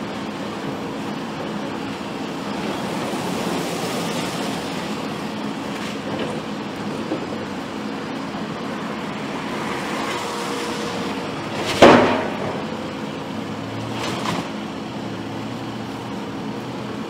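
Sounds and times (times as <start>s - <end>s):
engine running: 0.0s - 17.0s
noisy wash: 0.0s - 17.0s.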